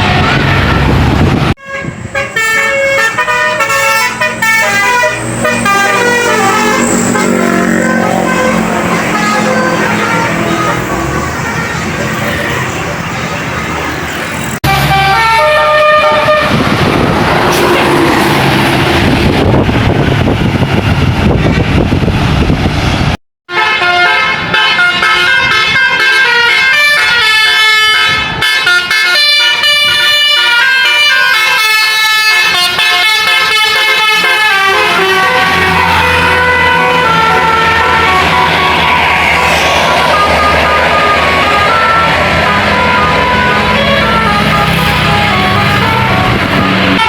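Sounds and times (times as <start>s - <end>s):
multi-tone bus air horns: 0.0s - 18.7s, 23.5s - 47.0s
bus engine running: 0.0s - 23.2s, 32.4s - 47.0s.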